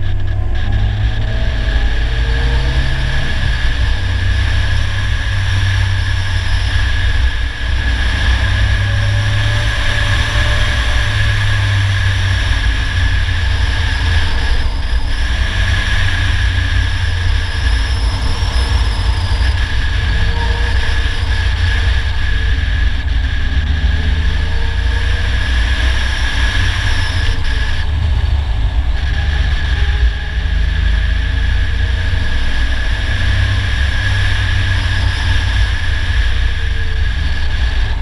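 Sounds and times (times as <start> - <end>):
engine low drone: 0.0 - 38.0
road noise: 0.0 - 38.0
wind rush: 0.0 - 38.0.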